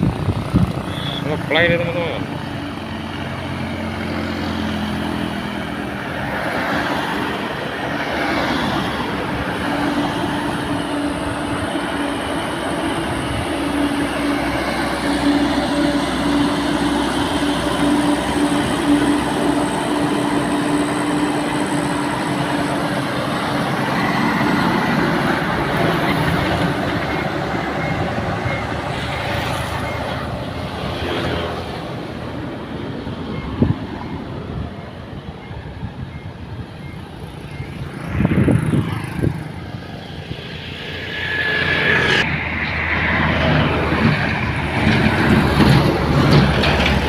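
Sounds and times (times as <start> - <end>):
diesel truck engine labouring: 0.0 - 41.1, 42.3 - 47.0.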